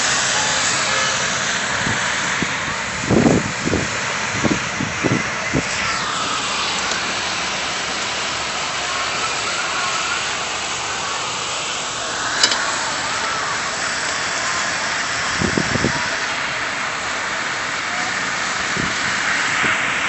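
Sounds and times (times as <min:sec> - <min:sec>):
snowstorm wind hiss: 0:00.0 - 0:20.0
traffic passing: 0:00.0 - 0:20.0.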